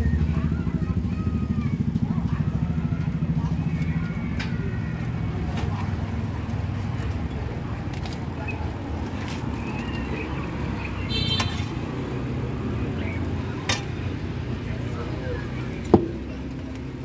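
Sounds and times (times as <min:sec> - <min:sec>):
faint voices: 0:00.0 - 0:17.0
vehicle engines rumbling: 0:00.0 - 0:17.0.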